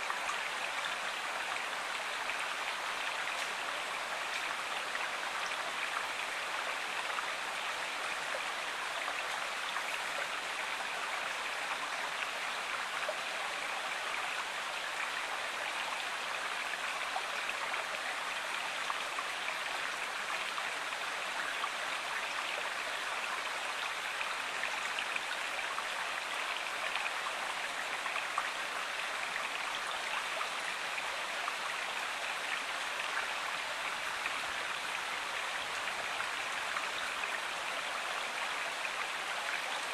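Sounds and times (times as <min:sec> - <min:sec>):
stream water rushing and splashing: 0:00.0 - 0:39.9.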